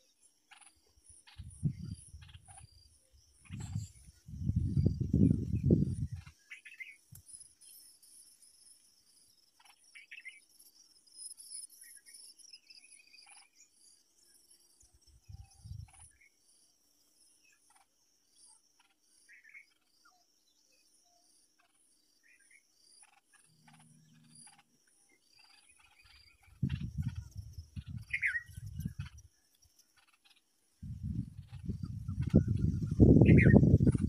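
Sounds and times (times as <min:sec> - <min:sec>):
insect chorus chirping: 0:00.0 - 0:34.0.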